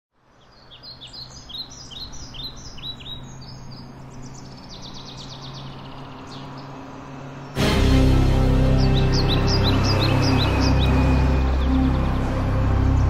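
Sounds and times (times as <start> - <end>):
birds chirping and trilling: 0.2 - 13.0.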